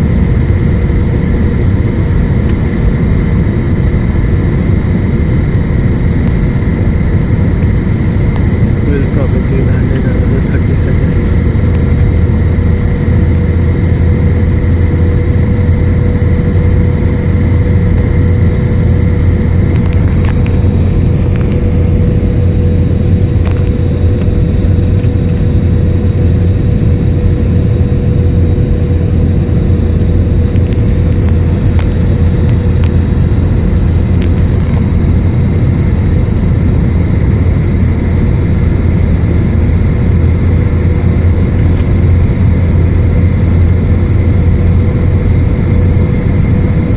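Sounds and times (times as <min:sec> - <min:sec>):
aircraft cabin engine drone: 0:00.0 - 0:46.9.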